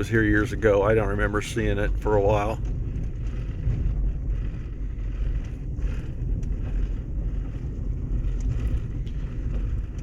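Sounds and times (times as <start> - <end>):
vehicle driving slowly from inside: 0.0 - 10.0.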